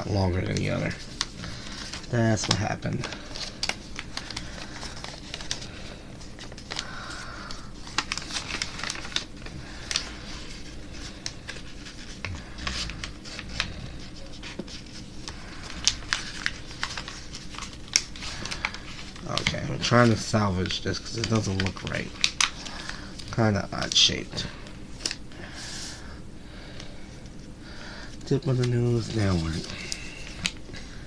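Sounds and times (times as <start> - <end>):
paper crinkling: 0.0 - 26.0, 26.7 - 31.0.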